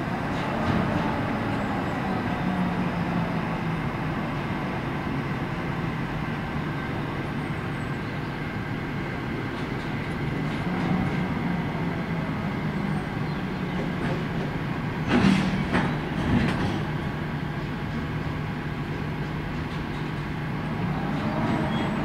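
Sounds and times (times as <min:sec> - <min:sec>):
electric locomotive humming: 0:00.0 - 0:22.0.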